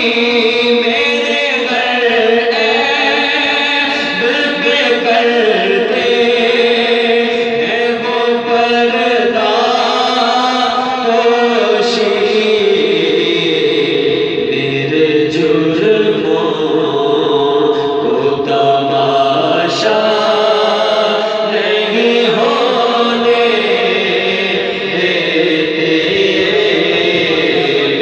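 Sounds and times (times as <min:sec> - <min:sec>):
two men singing unaccompanied: 0:00.0 - 0:28.0.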